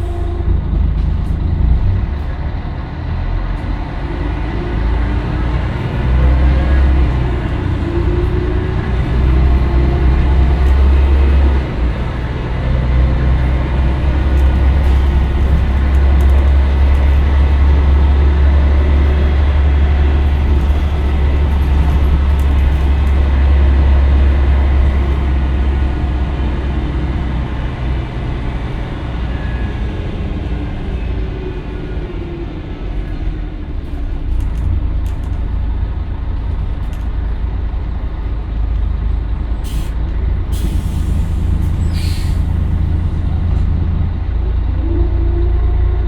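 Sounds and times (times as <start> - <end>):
road and body noise: 0.0 - 29.2, 31.6 - 44.7
bus engine hum: 0.0 - 46.0.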